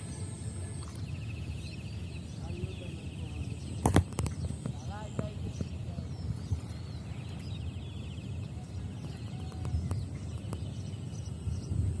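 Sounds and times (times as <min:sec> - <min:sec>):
bird trill: 0:00.0 - 0:12.0
birds chirping: 0:00.0 - 0:12.0
steady low rumble: 0:00.0 - 0:12.0.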